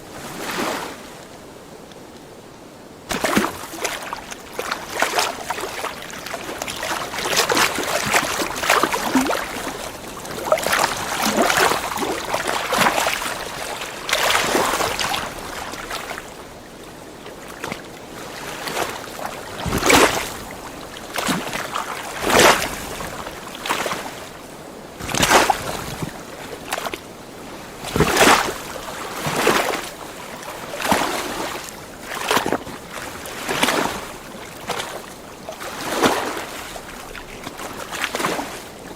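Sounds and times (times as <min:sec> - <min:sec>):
lake waves lapping and splashing: 0:00.0 - 0:38.9.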